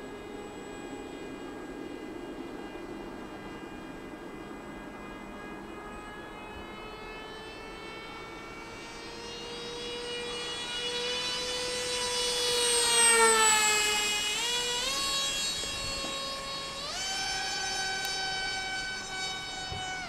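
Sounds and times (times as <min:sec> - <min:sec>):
electric motor and propeller whining: 0:00.0 - 0:20.0.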